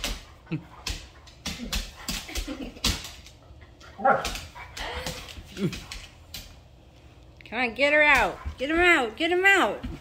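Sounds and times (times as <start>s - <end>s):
paws tapping on hardwood floor: 0.0s - 7.1s, 7.8s - 10.0s.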